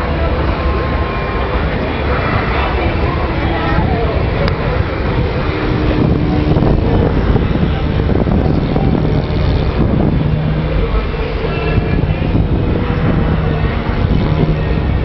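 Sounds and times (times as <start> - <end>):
model aircraft engine: 0.0 - 15.0
swamp buggy engines: 0.0 - 15.0.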